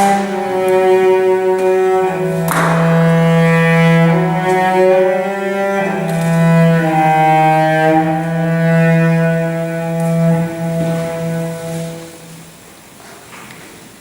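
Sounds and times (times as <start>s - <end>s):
bowed string music: 0.0s - 12.6s.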